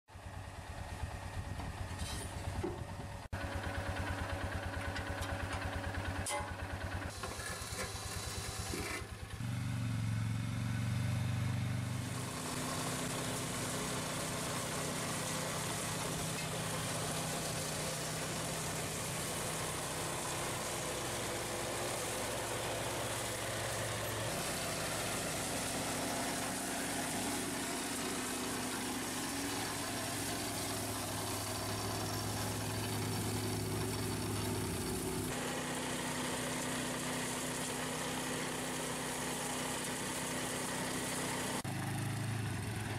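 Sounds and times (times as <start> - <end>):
small mower engine running: 0.1 - 42.9.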